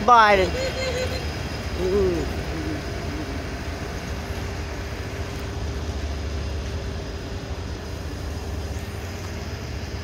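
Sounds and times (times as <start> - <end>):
faint steady hum: 0.0 - 10.0
train wheels rumbling on track: 0.0 - 10.0.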